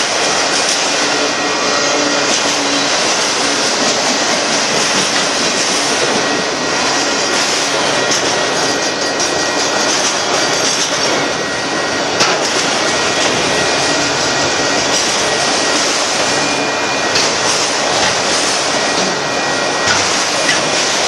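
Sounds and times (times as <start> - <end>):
steel wheels rushing on rail: 0.0 - 21.0.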